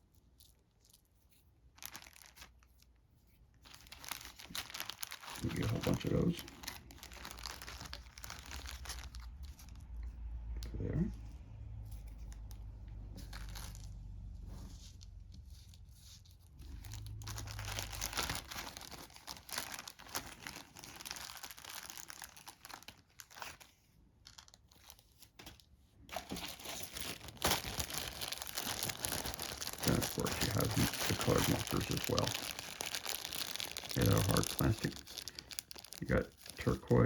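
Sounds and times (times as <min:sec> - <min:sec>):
plastic packaging rustling: 0:00.4 - 0:02.9, 0:03.6 - 0:10.1, 0:11.9 - 0:37.0.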